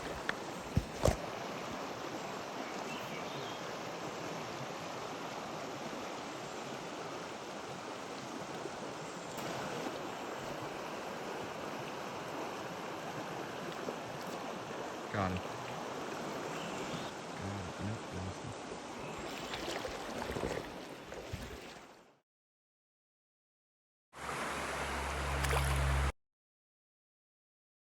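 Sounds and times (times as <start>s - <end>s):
creek flowing water: 0.0s - 22.2s, 24.2s - 26.1s.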